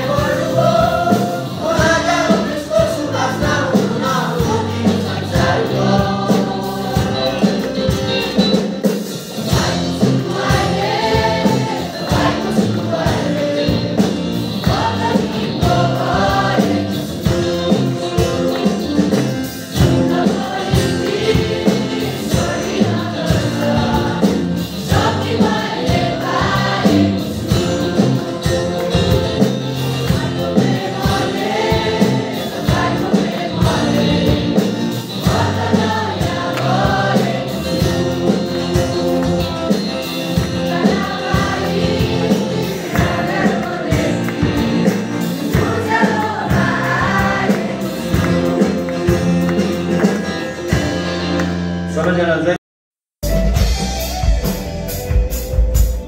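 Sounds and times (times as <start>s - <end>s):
choir singing gospel song: 0.0s - 51.4s
drums keeping a steady beat: 0.0s - 51.6s, 53.2s - 56.0s
acoustic guitar: 0.0s - 52.0s.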